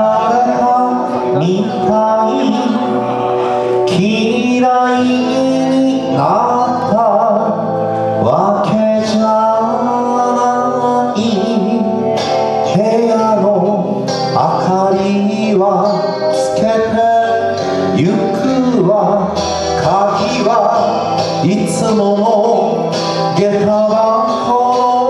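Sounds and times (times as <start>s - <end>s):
acoustic guitars playing: 0.0s - 25.0s
man singing: 0.0s - 25.0s.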